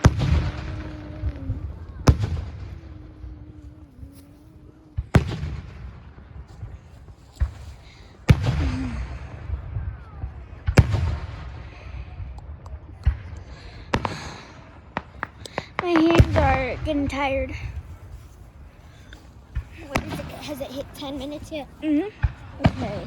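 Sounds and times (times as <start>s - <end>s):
fireworks booming: 0.0s - 23.0s
rumbling echo and crackle: 0.0s - 23.0s.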